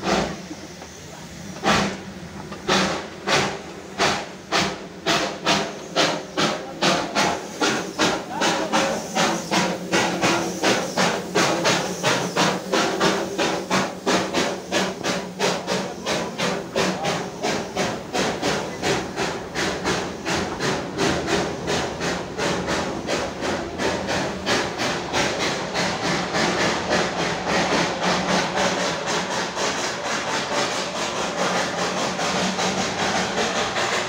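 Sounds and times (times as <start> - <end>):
steady steam hiss: 0.0 - 34.0
steam locomotive chuffing: 0.0 - 34.0.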